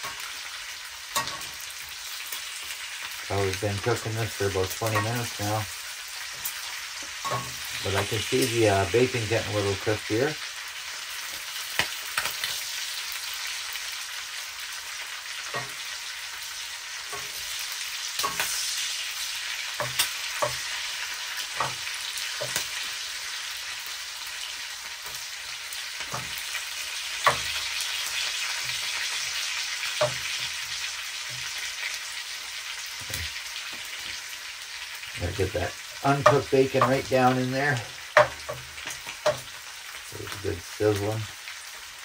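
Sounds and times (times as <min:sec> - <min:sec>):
bacon and sausages sizzling: 0:00.0 - 0:42.0.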